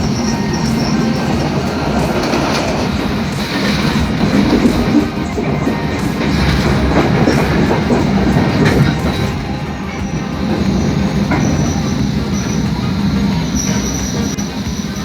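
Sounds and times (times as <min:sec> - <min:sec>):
train rumbling on rails: 0:00.0 - 0:15.0
wheels clicking: 0:00.0 - 0:15.0.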